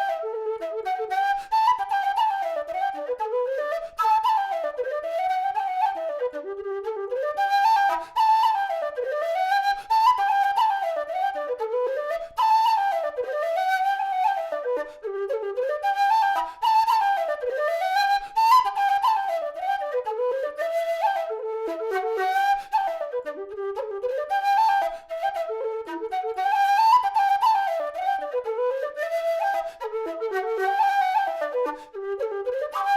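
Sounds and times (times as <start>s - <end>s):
low whistle folk melody: 0.0s - 32.9s.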